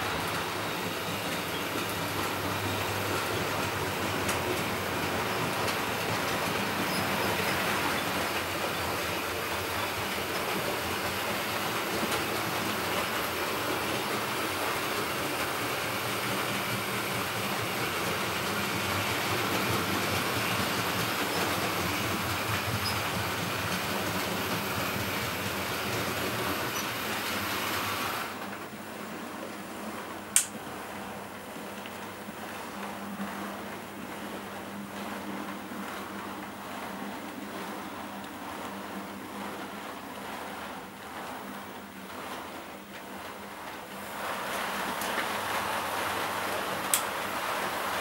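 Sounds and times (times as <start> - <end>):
model train running on track: 0.0 - 48.0.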